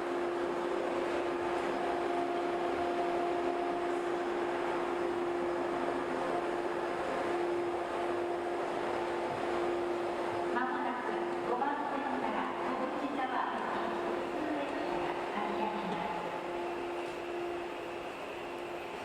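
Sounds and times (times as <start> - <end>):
train car interior noise: 0.0 - 19.0.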